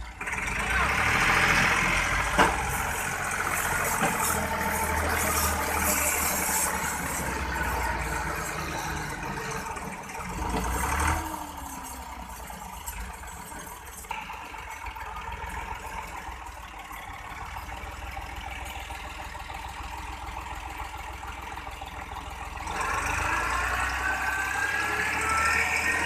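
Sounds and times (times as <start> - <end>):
tractor diesel engine labouring: 0.0 - 26.0.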